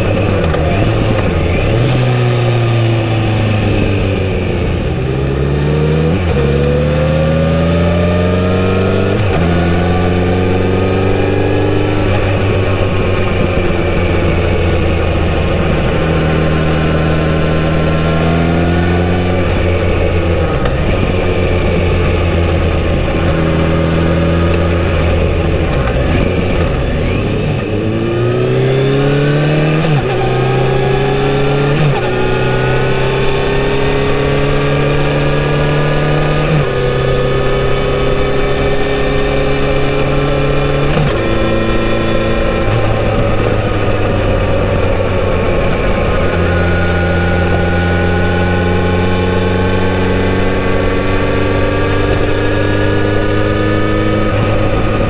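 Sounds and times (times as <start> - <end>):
motorcycle engine shifting gears: 0.0 - 55.0.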